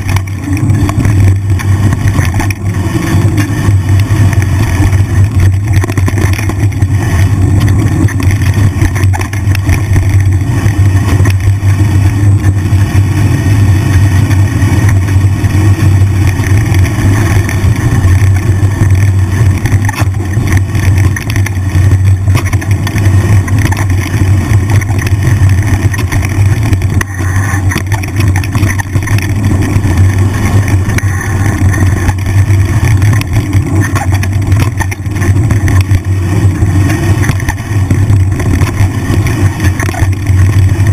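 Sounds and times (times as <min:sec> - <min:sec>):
bike tyres on dirt trail: 0:00.0 - 0:40.9
wind buffeting microphone: 0:00.0 - 0:40.9.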